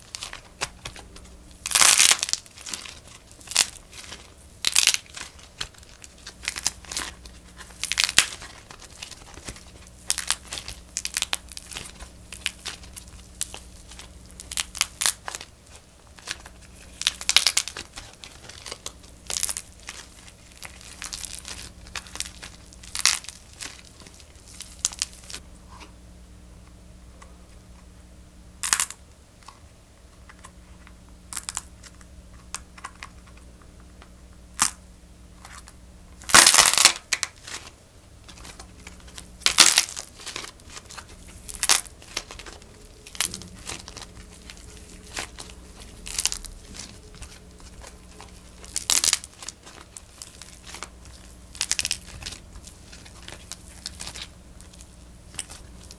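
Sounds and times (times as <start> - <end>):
dried clay cracking and crumbling: 0.0 - 25.4, 28.6 - 29.6, 30.2 - 34.8, 35.4 - 55.9.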